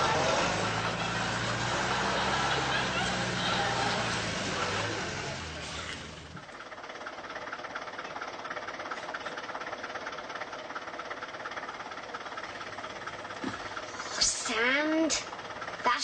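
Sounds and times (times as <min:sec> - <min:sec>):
car engine running: 0:00.0 - 0:16.0
rapid engine clatter: 0:00.0 - 0:16.0.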